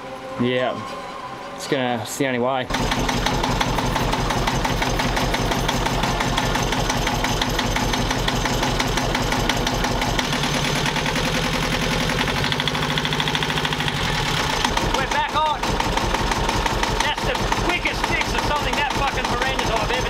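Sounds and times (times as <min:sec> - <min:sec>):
boat engine running: 0:02.7 - 0:20.0.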